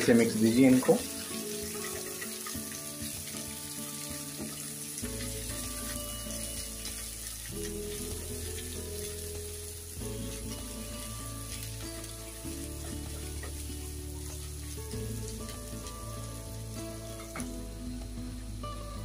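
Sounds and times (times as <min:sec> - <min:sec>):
soft background music: 0:00.0 - 0:19.0
vegetables sizzling in oil: 0:00.0 - 0:19.0.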